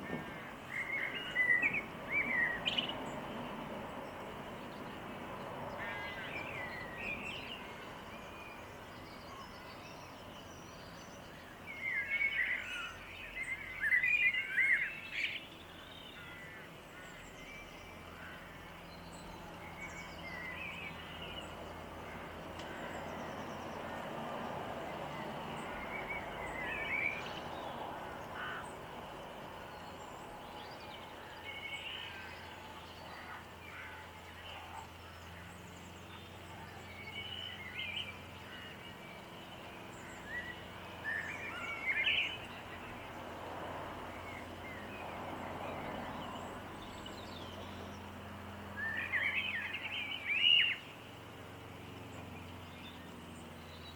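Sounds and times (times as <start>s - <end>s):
songbirds chirping: 0.0s - 53.9s
steady background noise: 0.0s - 53.9s.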